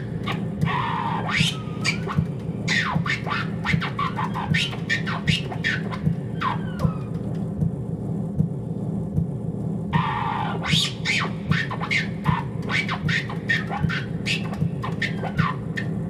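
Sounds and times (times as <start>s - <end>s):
vinyl record scratching: 0.0s - 7.4s, 10.0s - 16.0s
low pulsing drone: 0.0s - 16.0s.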